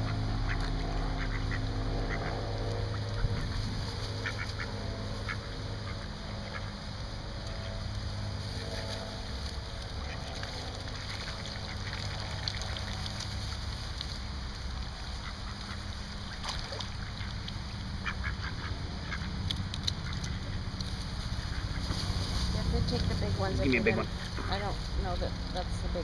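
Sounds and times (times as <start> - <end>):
ducks quacking: 0.0 - 13.2, 14.9 - 26.0.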